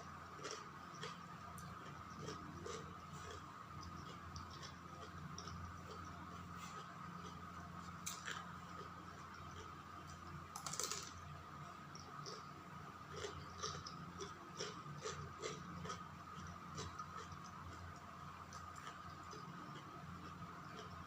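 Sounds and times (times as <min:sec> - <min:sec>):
faint steady hum: 0:00.0 - 0:21.0
wet chewing clicks: 0:00.3 - 0:10.9, 0:13.1 - 0:21.0.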